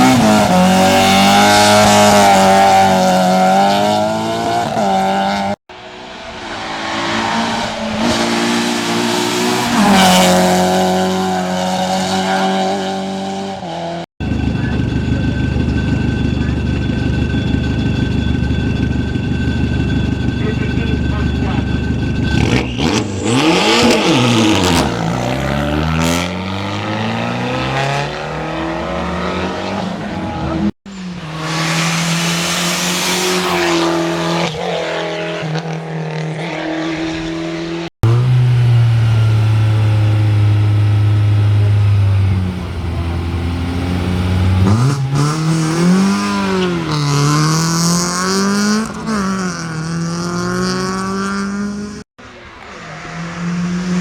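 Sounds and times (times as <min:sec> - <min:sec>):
racing car engines revving: 0:00.0 - 0:54.0.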